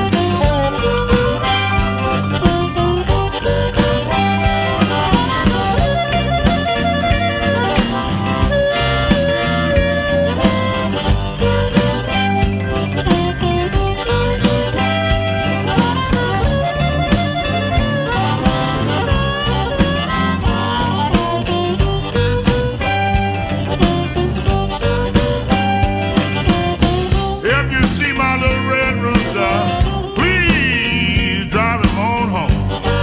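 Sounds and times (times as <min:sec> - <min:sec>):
bass: 0:00.0 - 0:33.0
guitar melody: 0:00.0 - 0:33.0
instrumental blues music: 0:00.0 - 0:33.0
steady drum beat: 0:00.0 - 0:33.0.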